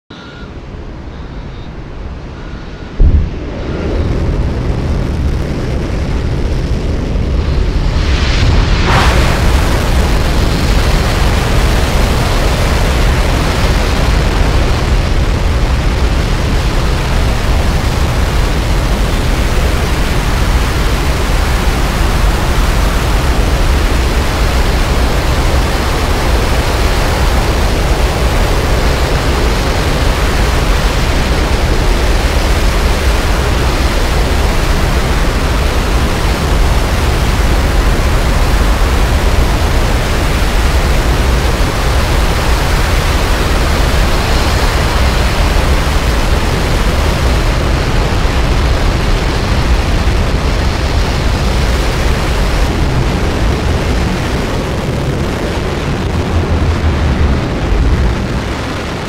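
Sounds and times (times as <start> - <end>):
rocket engines roaring: 0.1 - 59.0.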